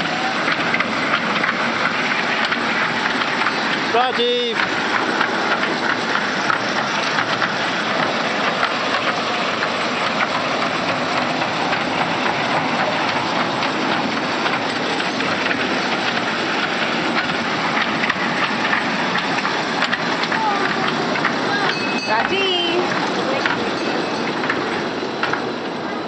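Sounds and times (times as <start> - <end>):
kiddie train running on rails: 0.0 - 26.0
wheels clicking on rails: 0.0 - 26.0.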